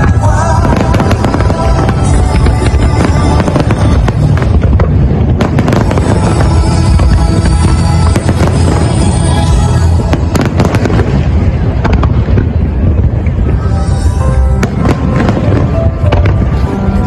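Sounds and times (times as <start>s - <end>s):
fireworks bangs and crackles: 0.0s - 17.0s
fireworks booming: 0.0s - 17.0s
music: 0.0s - 17.0s.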